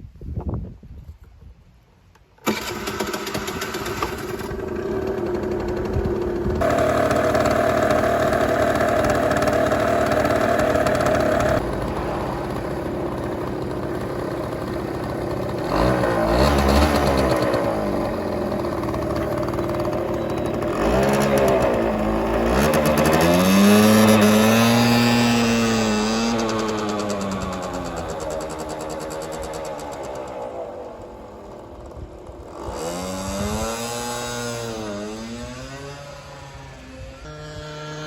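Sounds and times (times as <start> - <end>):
construction machinery engines revving: 2.4 - 38.0.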